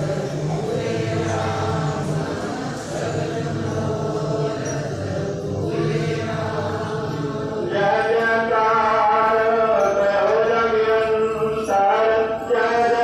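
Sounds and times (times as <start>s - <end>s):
devotional chanting with music: 0.0s - 13.0s.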